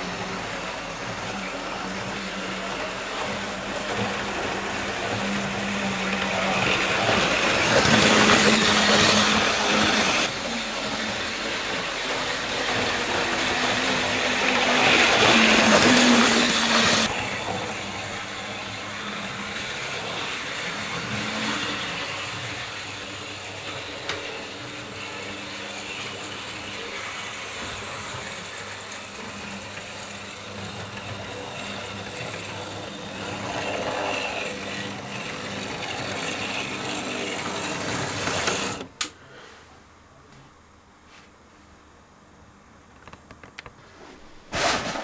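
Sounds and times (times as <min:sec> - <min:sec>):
model train motor whirring: 0:00.0 - 0:39.0.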